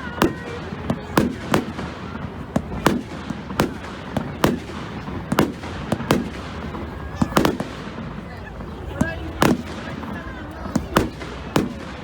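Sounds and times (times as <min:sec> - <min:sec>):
fireworks bangs echoing: 0:00.0 - 0:12.0.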